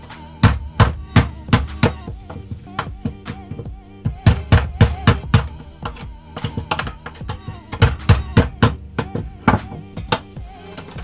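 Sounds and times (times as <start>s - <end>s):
background music: 0.0s - 11.0s
hammer tapping metal tube: 0.4s - 11.0s.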